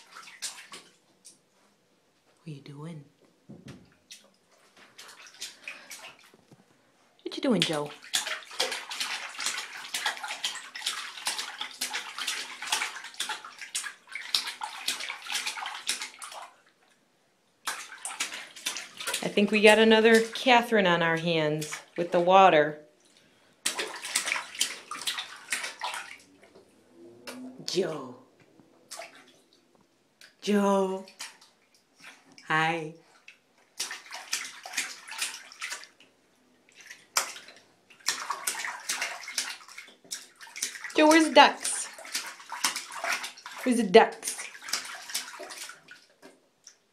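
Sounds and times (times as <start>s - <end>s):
baby splashing water: 0.0s - 1.4s, 3.8s - 6.4s, 7.3s - 17.0s, 17.6s - 22.6s, 23.6s - 32.4s, 33.0s - 46.9s.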